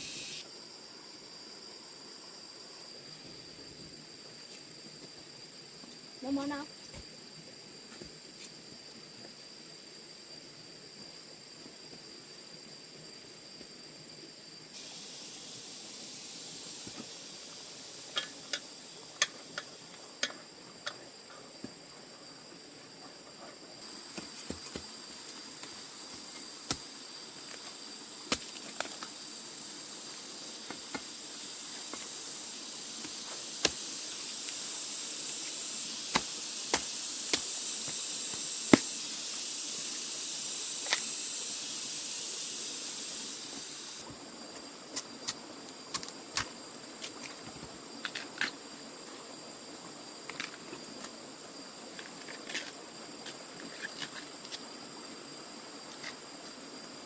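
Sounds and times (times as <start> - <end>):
hissing insect drone: 0.0 - 57.0
insects trilling: 0.0 - 57.0.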